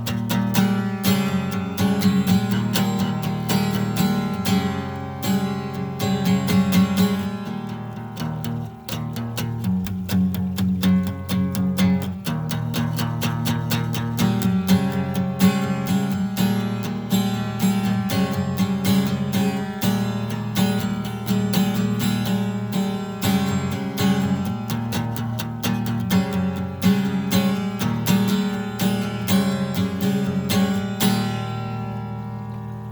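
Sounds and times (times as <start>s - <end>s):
fast acoustic guitar: 0.0s - 32.9s.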